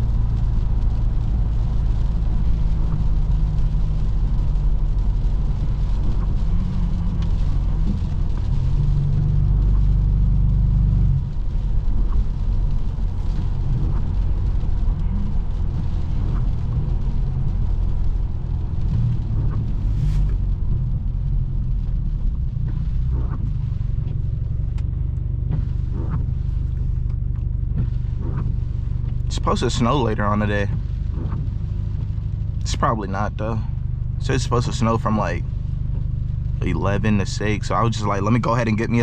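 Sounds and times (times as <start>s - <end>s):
car exhaust droning: 0.0s - 39.0s.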